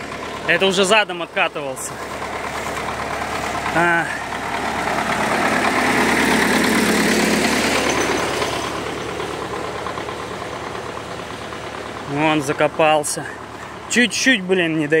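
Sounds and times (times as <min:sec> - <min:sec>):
tractor engine revving under load: 0:00.0 - 0:15.0.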